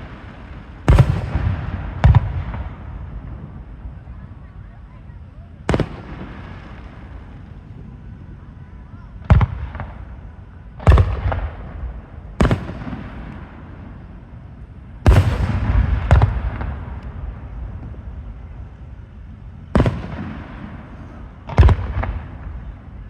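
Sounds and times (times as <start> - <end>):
fireworks booming: 0.0 - 23.0
rolling rumble: 0.0 - 23.0.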